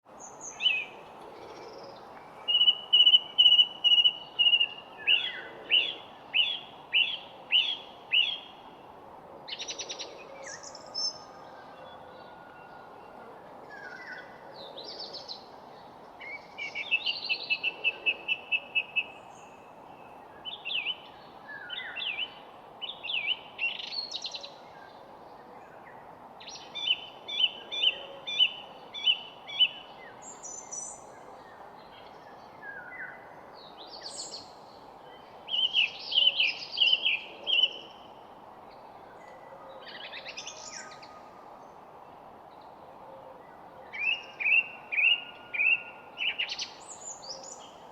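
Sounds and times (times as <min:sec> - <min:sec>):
songbirds singing: 0:00.1 - 0:08.9, 0:09.5 - 0:47.9
steady low background hiss: 0:00.1 - 0:47.9.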